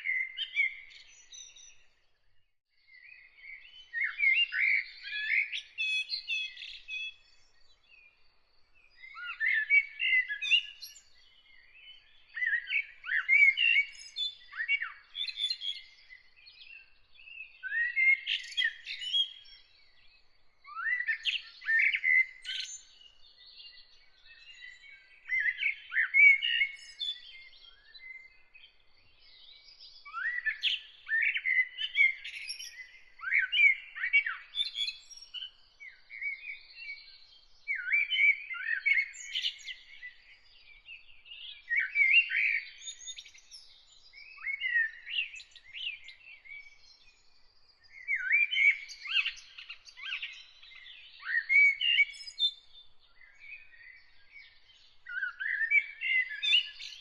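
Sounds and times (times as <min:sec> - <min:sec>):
songbird chirping phrases: 0:00.0 - 0:57.0.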